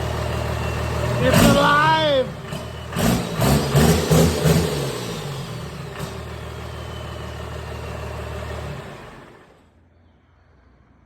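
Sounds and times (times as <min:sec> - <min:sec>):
diesel engine idling: 0:00.0 - 0:09.8.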